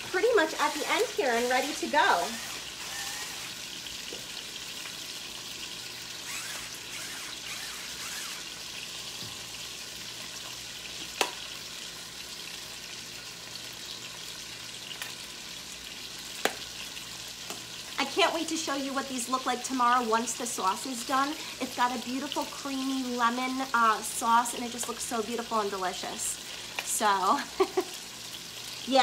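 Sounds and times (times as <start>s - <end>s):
chicken sizzling in skillet: 0.0s - 7.4s, 8.1s - 29.0s.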